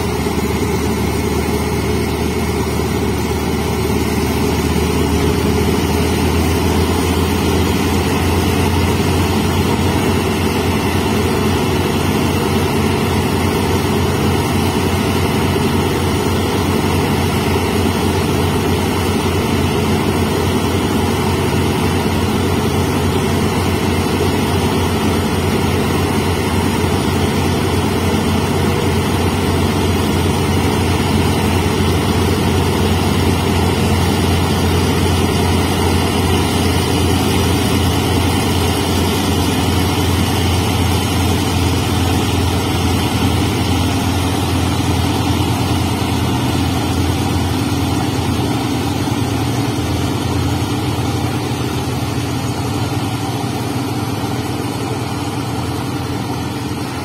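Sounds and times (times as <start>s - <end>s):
diesel locomotive engine idling: 0.0s - 57.0s.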